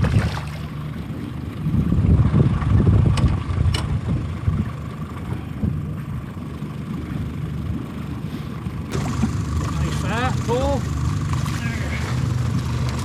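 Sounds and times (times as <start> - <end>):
boat motor running: 0.0 - 13.0
wind buffeting microphone: 0.0 - 13.0.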